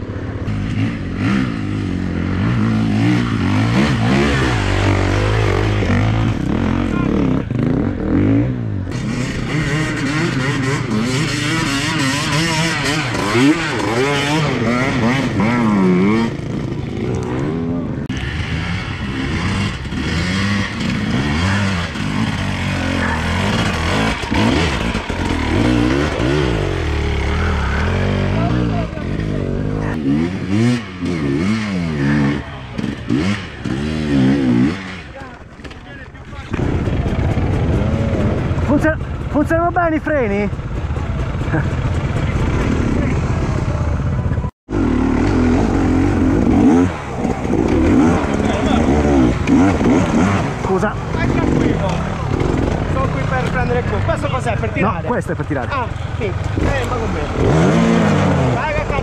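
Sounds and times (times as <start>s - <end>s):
dirt bikes revving: 0.0s - 59.0s.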